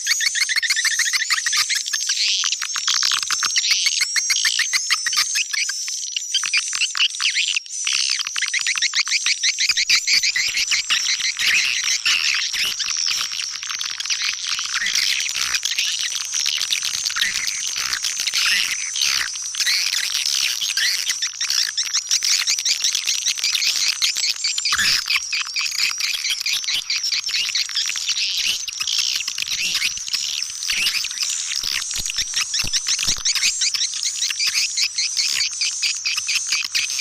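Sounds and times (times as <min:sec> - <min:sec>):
swiftlets twittering and chirping: 0:00.0 - 0:37.0.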